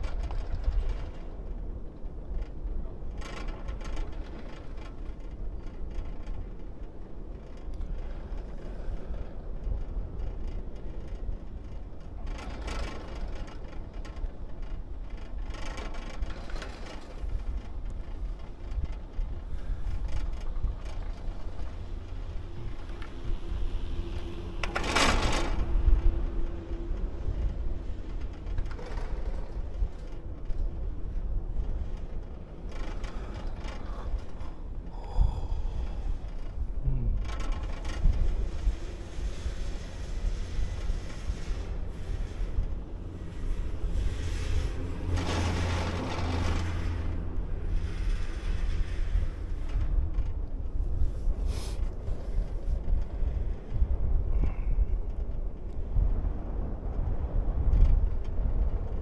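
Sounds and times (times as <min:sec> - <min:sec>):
wind rumble: 0:00.0 - 0:59.0.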